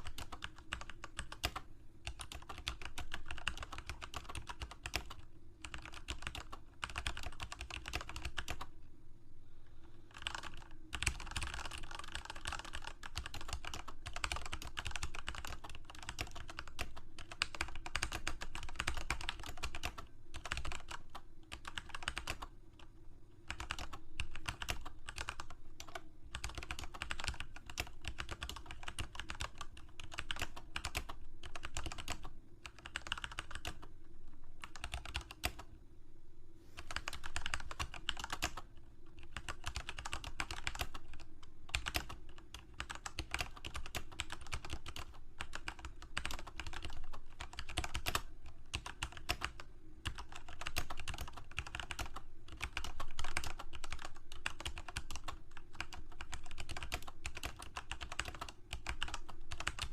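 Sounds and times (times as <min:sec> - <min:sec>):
typing on computer keyboard: 0:00.0 - 0:08.7, 0:10.1 - 0:22.5, 0:23.5 - 0:33.9, 0:34.6 - 0:35.7, 0:36.8 - 0:59.9.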